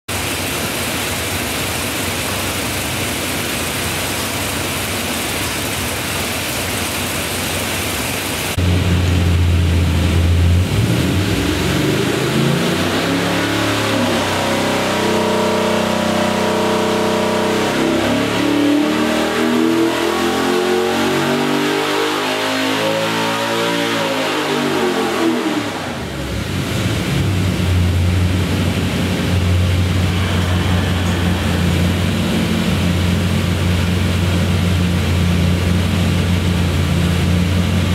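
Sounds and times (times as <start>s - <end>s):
engine revving on dyno: 0.1s - 37.9s.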